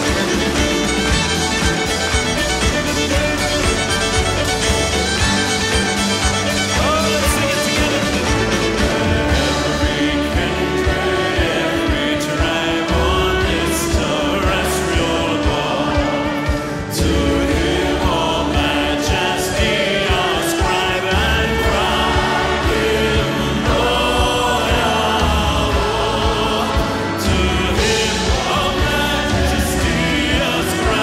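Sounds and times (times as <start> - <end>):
man singing a hymn: 0.0 - 1.6, 6.4 - 31.0
orchestral accompaniment with violin: 0.0 - 31.0.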